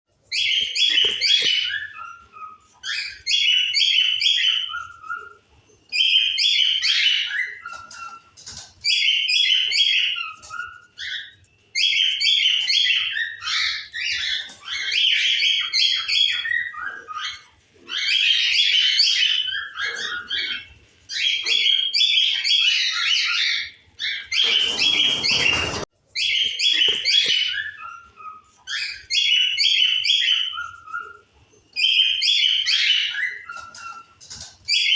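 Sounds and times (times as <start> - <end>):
cockatiels chirping: 0.3 - 34.9.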